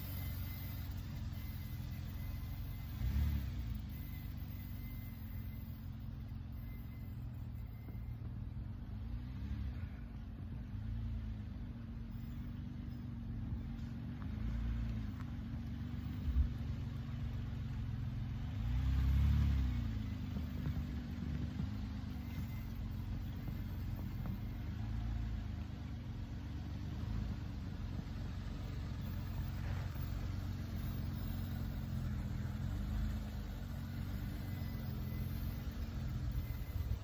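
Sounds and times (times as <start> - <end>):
van engine revving: 0.0 - 37.0
wheels spinning in snow: 0.0 - 37.0.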